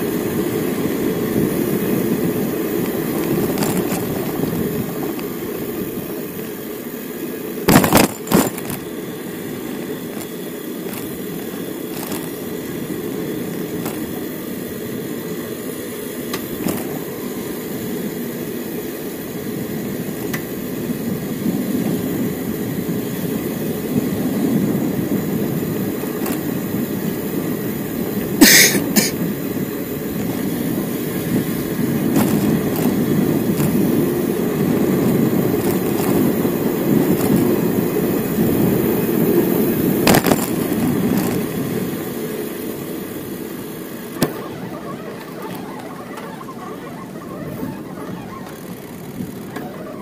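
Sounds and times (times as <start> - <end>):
bicycle road noise: 0.0 - 50.0.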